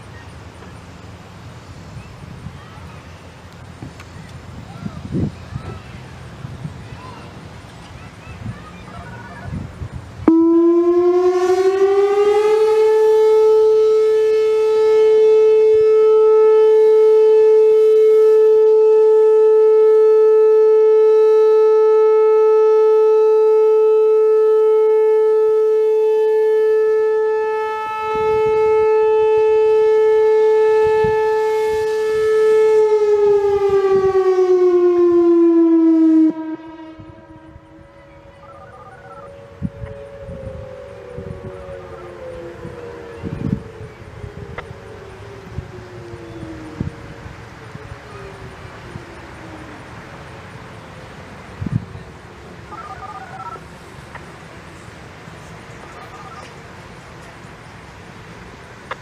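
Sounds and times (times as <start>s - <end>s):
electronic warning siren: 10.2s - 59.0s.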